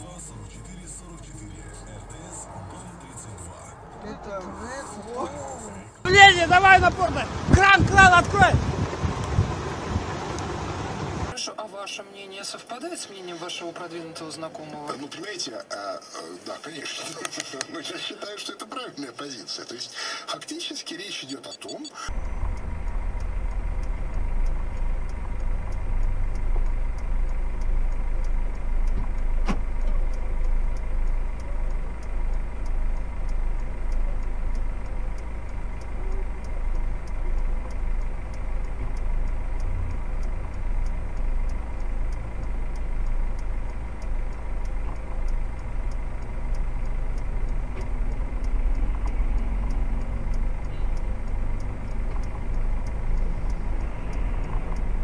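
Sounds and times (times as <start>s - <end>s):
car idling: 0.0s - 11.3s, 22.1s - 55.0s.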